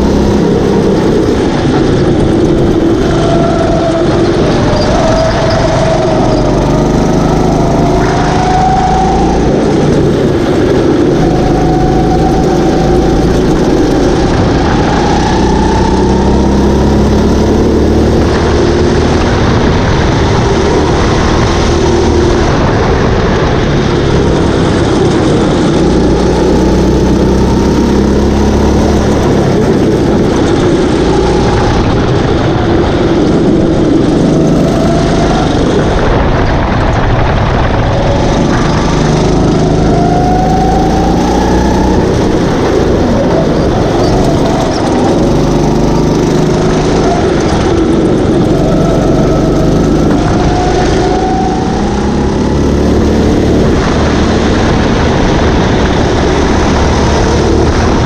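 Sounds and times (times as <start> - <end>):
kart engines revving: 0.0 - 58.0.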